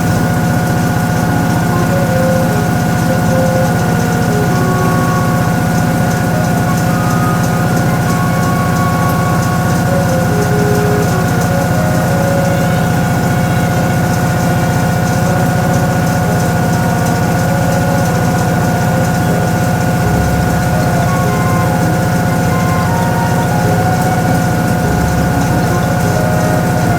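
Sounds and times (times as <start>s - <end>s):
washing machine running: 0.0s - 26.9s.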